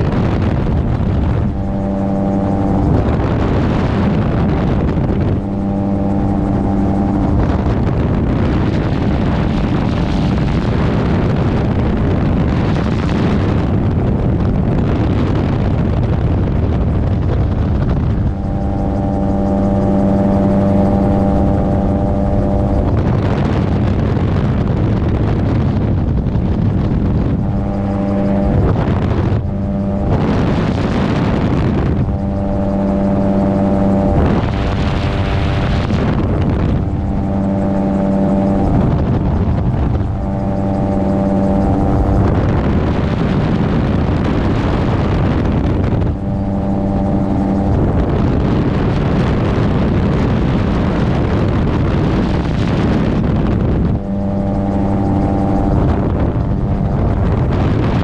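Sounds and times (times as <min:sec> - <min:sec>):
aircraft engine droning: 0:00.0 - 0:58.0
wind rushing over microphone: 0:00.0 - 0:58.0.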